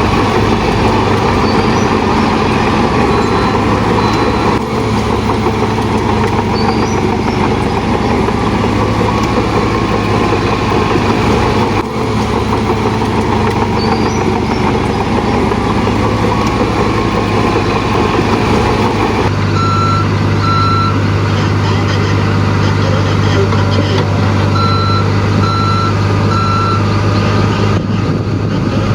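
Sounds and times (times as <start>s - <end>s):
reversing alarm beeps: 0.0s - 21.0s, 24.5s - 27.0s
heavy diesel engine under load: 0.0s - 28.9s.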